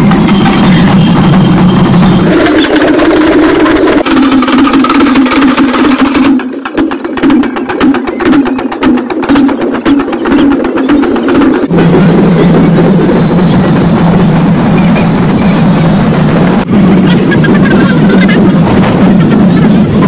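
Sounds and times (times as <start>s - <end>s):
group drumming with sticks: 0.0s - 20.0s.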